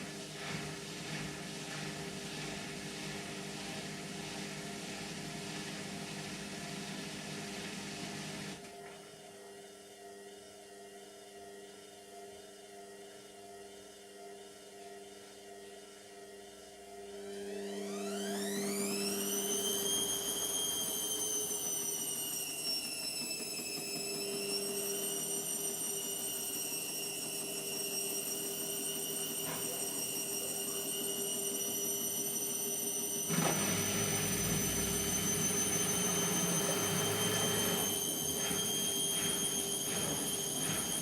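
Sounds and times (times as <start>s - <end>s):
washing machine motor whine: 0.0s - 8.9s, 16.8s - 41.0s.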